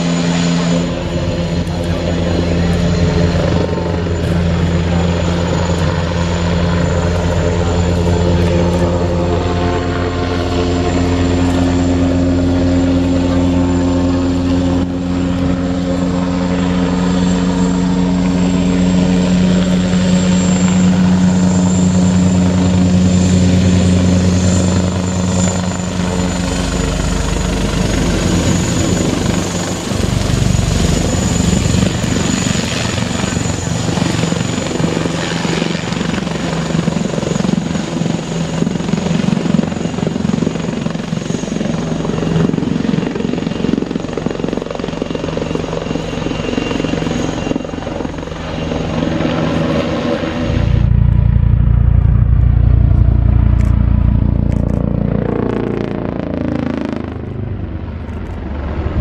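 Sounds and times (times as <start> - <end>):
helicopter rotor drone: 0.0 - 59.0
high turbine whine: 0.0 - 59.0.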